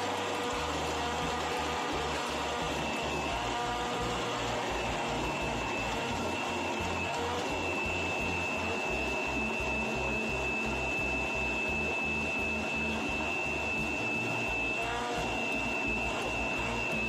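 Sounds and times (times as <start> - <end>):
blender motor whining: 0.0 - 17.0.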